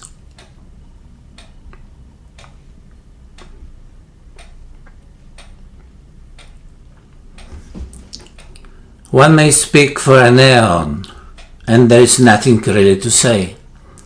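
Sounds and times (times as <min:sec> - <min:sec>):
regular ticking: 0:00.0 - 0:07.5, 0:08.1 - 0:14.0.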